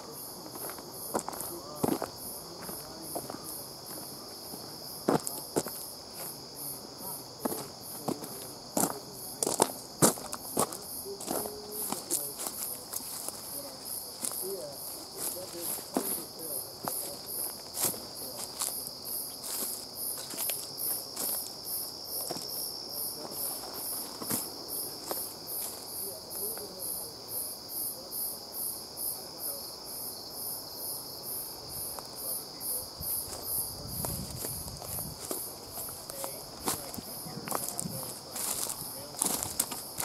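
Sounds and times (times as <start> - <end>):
high insect chirps: 0.0 - 40.0
insects trilling: 0.0 - 40.0
footsteps on trail: 0.2 - 6.6, 7.3 - 26.6, 33.0 - 40.0.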